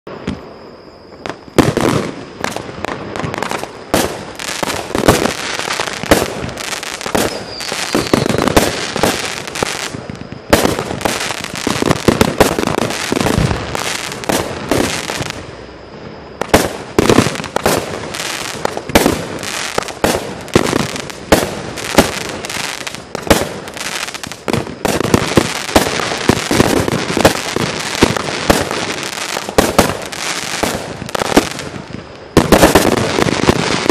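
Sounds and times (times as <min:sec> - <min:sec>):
fireworks crackling hiss: 0:00.1 - 0:33.9
fireworks bangs: 0:01.2 - 0:33.9.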